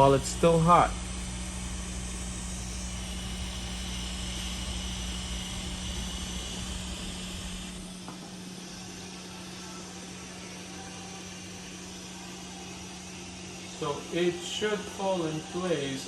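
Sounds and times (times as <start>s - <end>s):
hot air station hissing: 0.0s - 16.0s.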